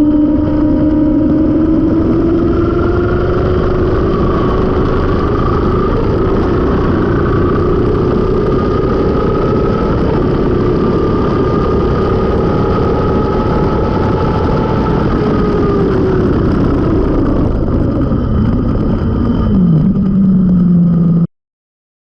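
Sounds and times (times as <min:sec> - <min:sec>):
motorcycle engine decelerating: 0:00.0 - 0:21.3.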